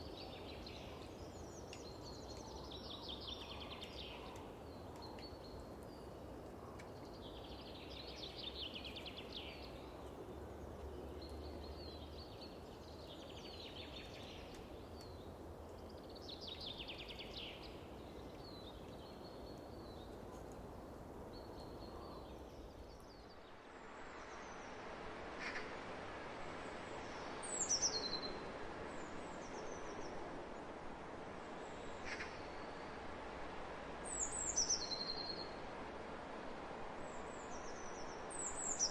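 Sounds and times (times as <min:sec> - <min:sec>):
low wind rumble: 0:00.0 - 0:38.9.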